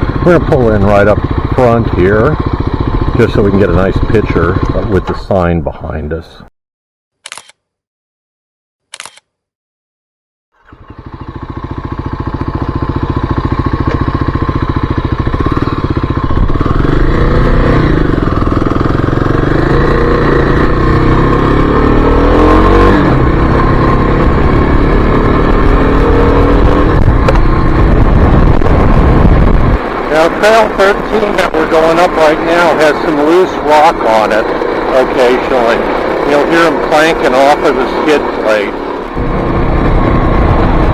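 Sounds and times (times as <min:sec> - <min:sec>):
motorcycle engine running: 0:00.0 - 0:05.5, 0:10.6 - 0:40.9.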